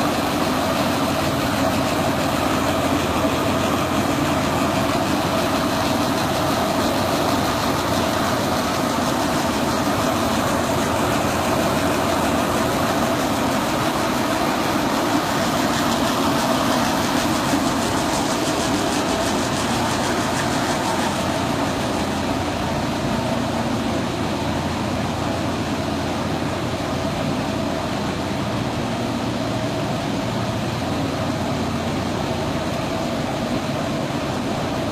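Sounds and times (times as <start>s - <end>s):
machinery mechanical drone: 0.0s - 34.9s.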